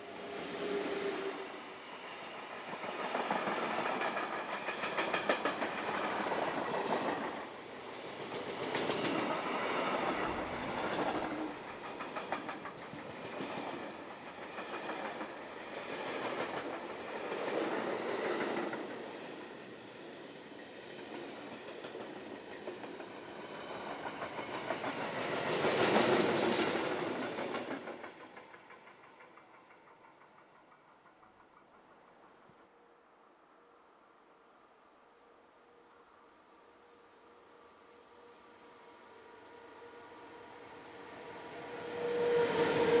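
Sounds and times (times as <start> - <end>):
freight train rolling past: 0.0 - 32.9, 37.9 - 43.0.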